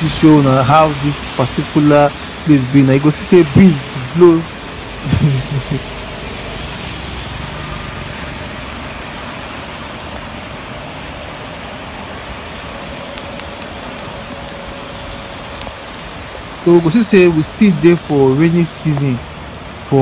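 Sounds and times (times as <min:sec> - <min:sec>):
car tyres on wet road: 0:00.0 - 0:20.0
heavy rain falling: 0:00.0 - 0:20.0.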